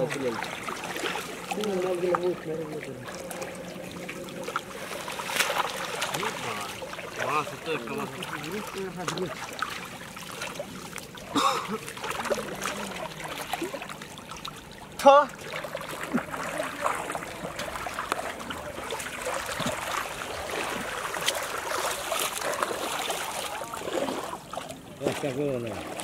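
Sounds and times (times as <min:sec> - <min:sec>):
muddy water sloshing: 0:00.0 - 0:26.0.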